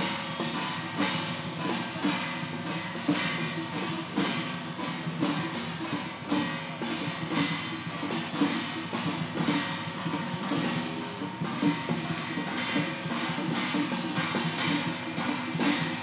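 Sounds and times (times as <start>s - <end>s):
cymbal crashes: 0.0s - 16.0s
drums beating: 0.0s - 16.0s.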